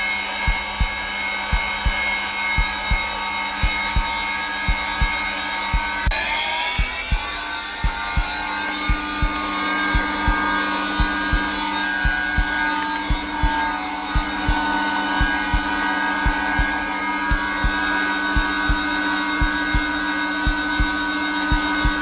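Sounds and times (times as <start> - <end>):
vacuum cleaner motor whine: 0.0 - 22.0
heartbeat thumping: 0.3 - 22.0.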